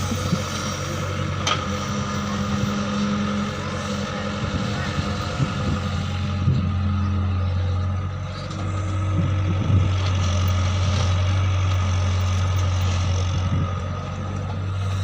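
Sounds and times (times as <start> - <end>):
farm vehicle engine running: 0.0 - 15.0.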